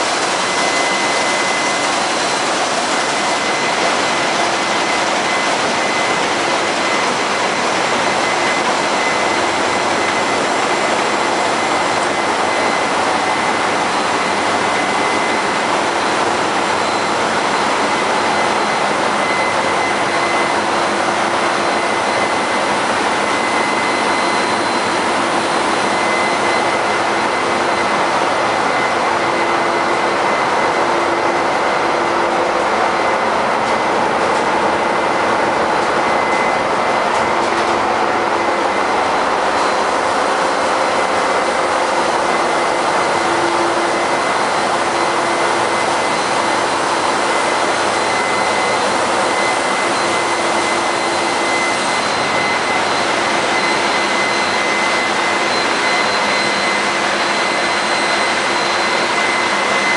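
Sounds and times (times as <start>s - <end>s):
engine room machinery noise: 0.0s - 59.9s
high steady whining tones: 0.0s - 59.9s.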